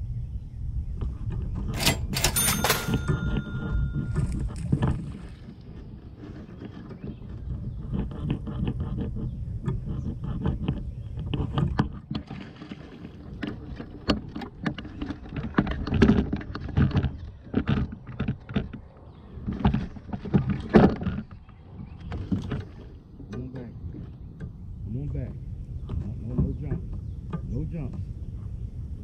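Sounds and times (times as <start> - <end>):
irregular knocks and clatter: 1.1 - 24.6.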